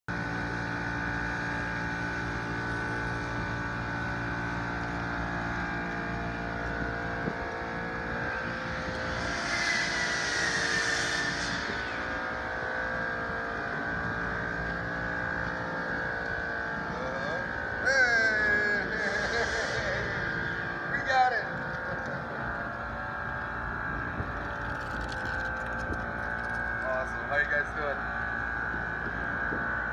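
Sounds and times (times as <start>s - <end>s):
steady mechanical hum: 0.1s - 29.9s
hiss with high whine: 5.0s - 29.9s.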